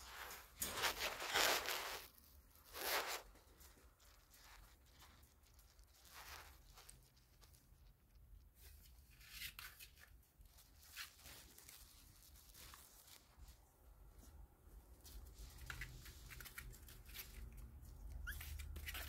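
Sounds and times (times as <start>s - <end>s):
puppy pads rustling and crinkling: 0.0s - 19.0s.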